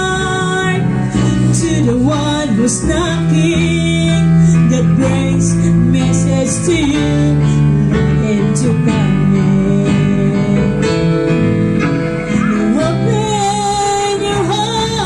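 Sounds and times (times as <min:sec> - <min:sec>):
gospel electronic keyboard music: 0:00.0 - 0:15.0.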